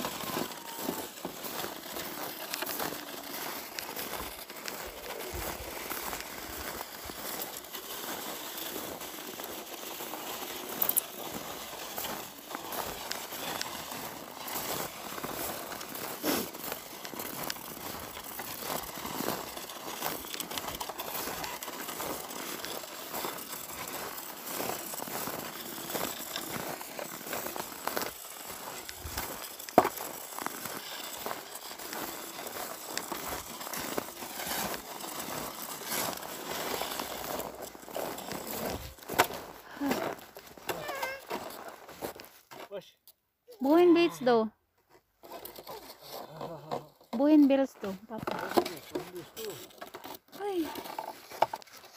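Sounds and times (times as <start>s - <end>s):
footsteps crunching on snow: 0.0s - 42.9s.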